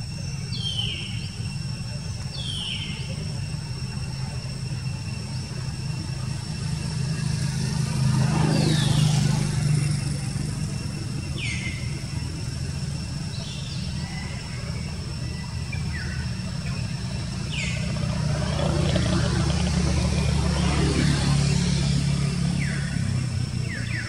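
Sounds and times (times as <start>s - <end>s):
motor engine humming: 3.0s - 24.0s.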